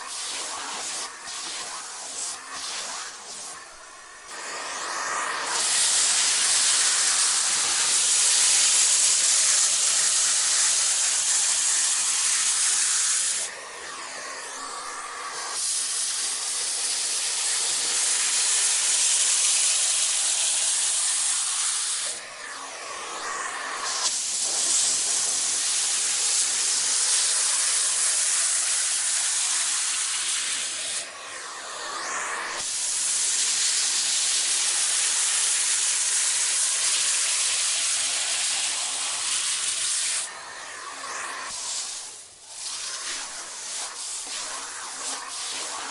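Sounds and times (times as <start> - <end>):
vacuum cleaner airflow hissing: 0.0 - 45.9.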